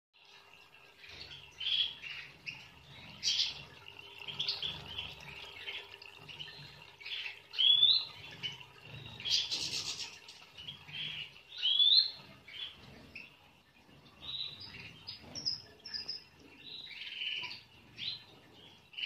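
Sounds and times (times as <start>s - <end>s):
finches chirping and twittering: 0.9s - 19.0s.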